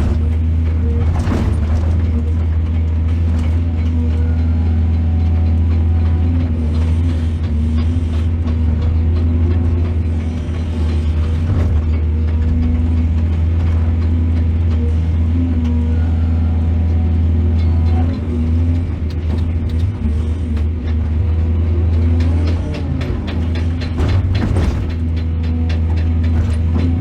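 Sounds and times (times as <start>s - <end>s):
heavy diesel engine droning: 0.0s - 27.0s.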